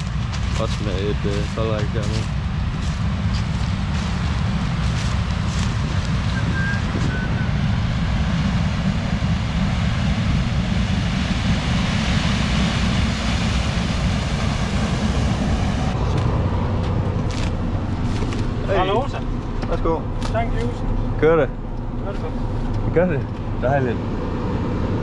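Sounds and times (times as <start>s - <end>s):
combine harvester running: 0.0s - 25.0s
wind rumbling on microphone: 0.0s - 25.0s.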